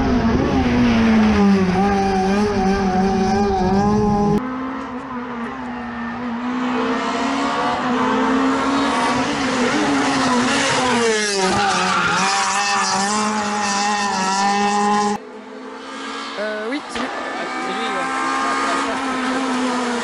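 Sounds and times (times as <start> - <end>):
rally car engine at high revs: 0.0 - 20.0.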